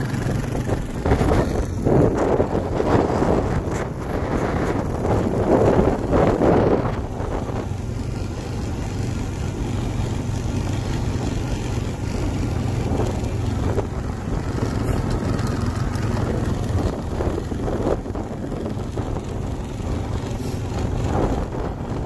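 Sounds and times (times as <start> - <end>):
atv engine running: 0.0 - 22.0
wind on microphone: 0.0 - 22.0.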